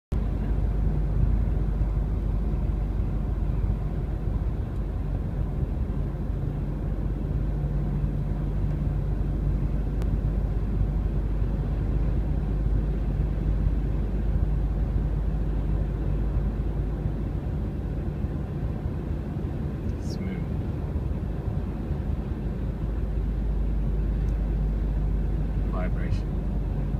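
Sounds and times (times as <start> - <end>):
car cabin road rumble: 0.1 - 26.9
constant low hum: 0.1 - 26.9.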